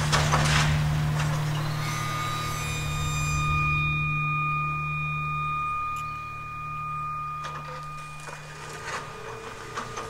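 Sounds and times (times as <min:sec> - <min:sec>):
excavator engine hum: 0:00.0 - 0:10.0
high-pitched whine: 0:00.0 - 0:10.0.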